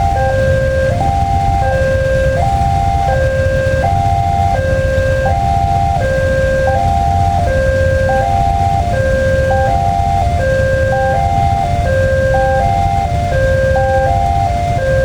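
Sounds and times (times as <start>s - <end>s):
level crossing warning signal: 0.0s - 15.0s
steady low rumble: 0.0s - 15.0s.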